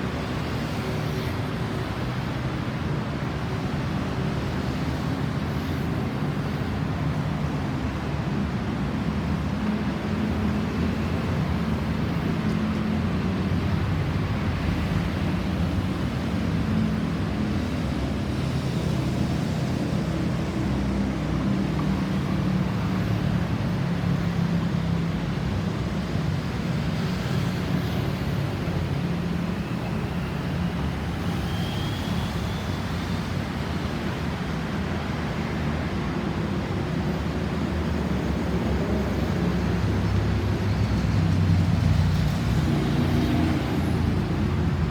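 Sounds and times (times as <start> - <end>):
road traffic rumble: 8.6 - 44.9.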